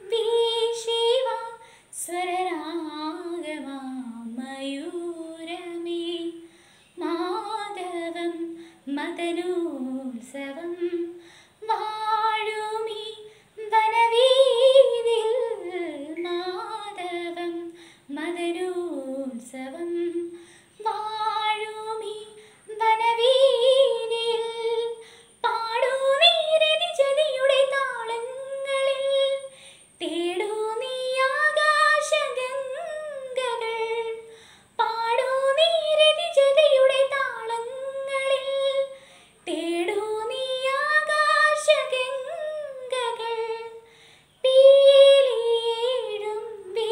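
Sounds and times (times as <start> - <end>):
girl singing unaccompanied: 0.0 - 46.9.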